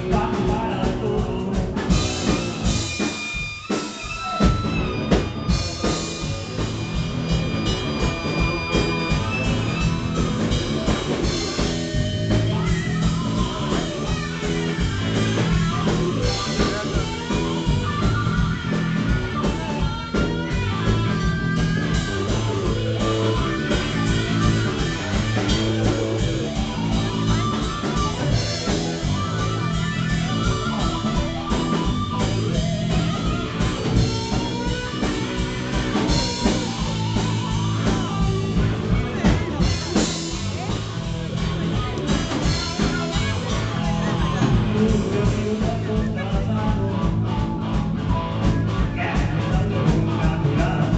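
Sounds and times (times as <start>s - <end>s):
bass: 0.0s - 50.9s
drum kit: 0.0s - 50.9s
electric guitar: 0.0s - 50.9s.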